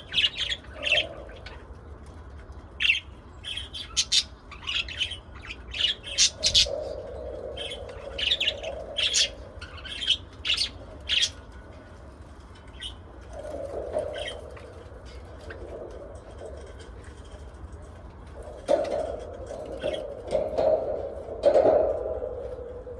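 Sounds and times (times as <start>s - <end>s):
birds chirping and squawking: 0.0s - 22.9s.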